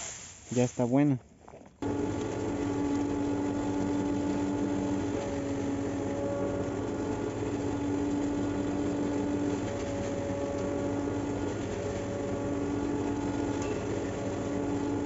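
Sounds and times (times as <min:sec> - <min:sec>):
forage mill grinding hay: 0:01.8 - 0:15.0.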